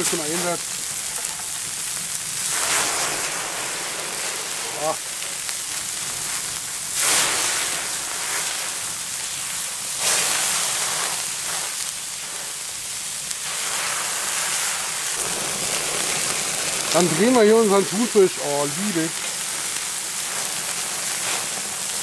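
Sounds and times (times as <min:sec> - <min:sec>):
seafood sizzling on hot plate: 0:00.0 - 0:22.0.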